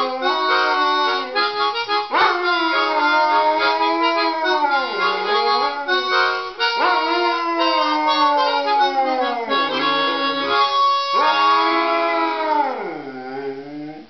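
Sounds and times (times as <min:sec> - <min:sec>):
harmonica held notes: 0:00.0 - 0:12.0
dog howling: 0:00.0 - 0:14.0.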